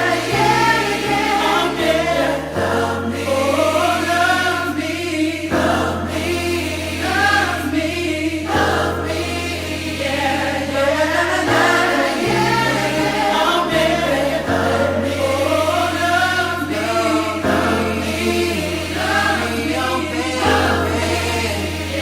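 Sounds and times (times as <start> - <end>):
choir singing: 0.0 - 22.0
held low chords: 0.0 - 22.0.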